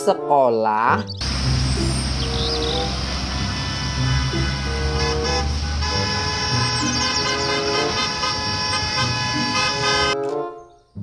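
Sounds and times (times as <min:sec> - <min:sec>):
background music: 0:00.0 - 0:11.0
bus horns honking: 0:01.2 - 0:10.2.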